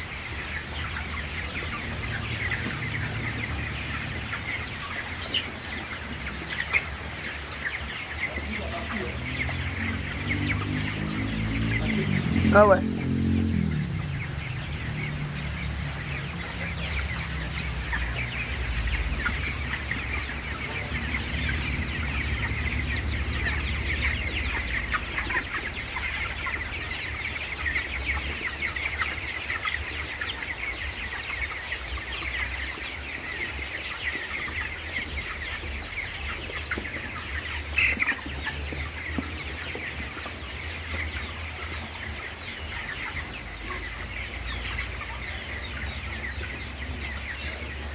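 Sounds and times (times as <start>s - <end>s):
chickens calling: 0.0s - 47.9s.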